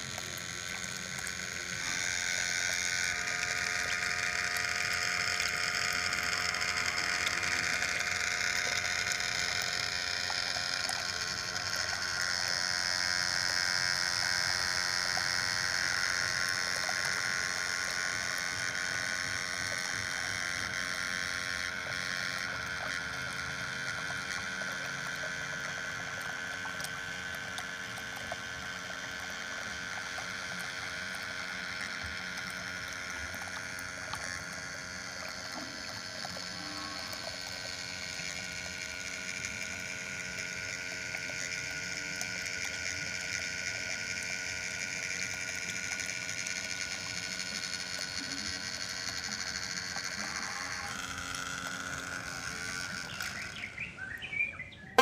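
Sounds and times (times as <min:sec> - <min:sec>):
small motor whirring: 0:00.0 - 0:55.0.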